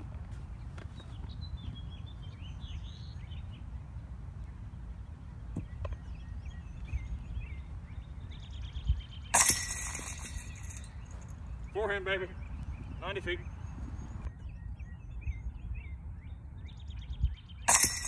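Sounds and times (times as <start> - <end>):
birds chirping: 0.0 - 18.0
steady low rumble: 0.0 - 18.0.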